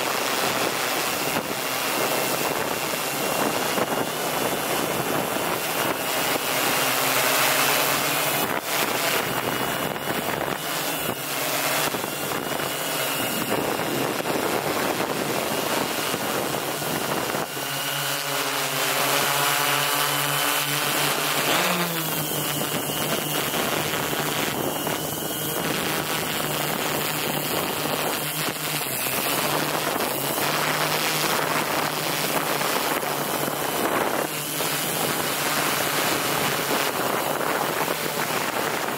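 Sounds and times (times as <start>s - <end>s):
drone motors whining: 0.0s - 38.9s
wind on microphone: 0.0s - 38.9s.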